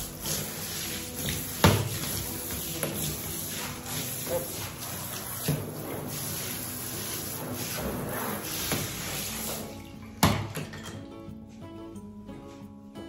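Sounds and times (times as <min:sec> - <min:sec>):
shower spraying into bathtub: 0:00.0 - 0:10.8
background music: 0:00.0 - 0:13.0.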